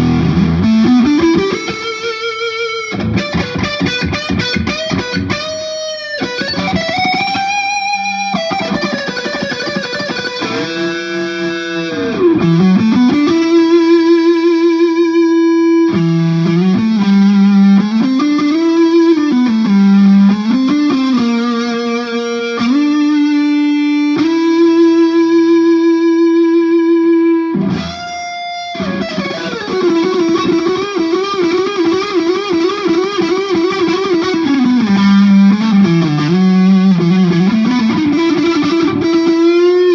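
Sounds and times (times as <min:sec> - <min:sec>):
electric guitar lead line: 0:00.0 - 0:39.9.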